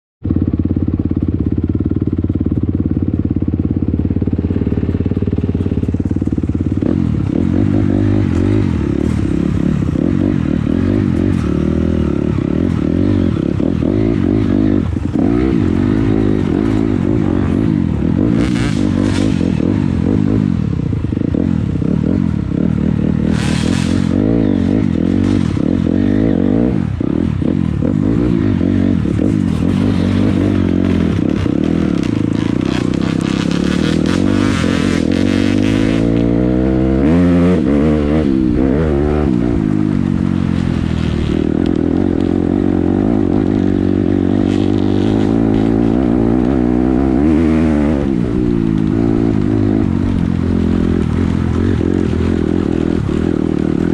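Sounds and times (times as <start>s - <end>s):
dirt bike engine revving: 0.3s - 53.9s.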